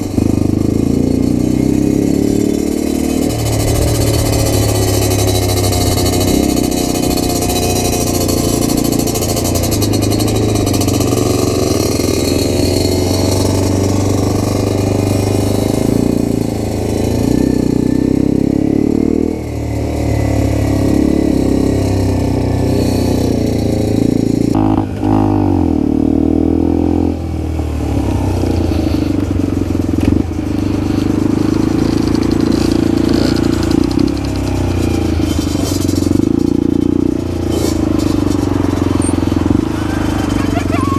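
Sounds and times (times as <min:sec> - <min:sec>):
motorbike engine running: 0:00.0 - 0:40.9.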